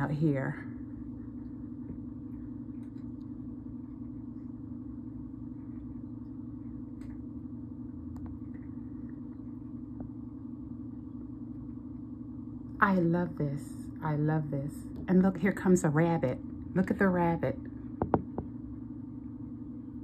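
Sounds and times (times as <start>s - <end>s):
faint rumble: 0.0s - 20.0s
steady low hum: 0.0s - 20.0s.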